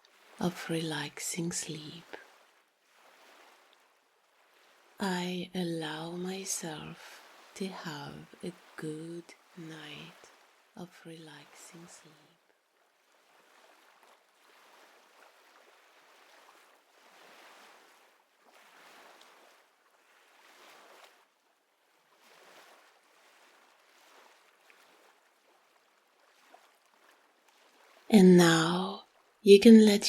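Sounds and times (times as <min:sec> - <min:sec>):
ocean waves washing in: 0:00.0 - 0:29.4.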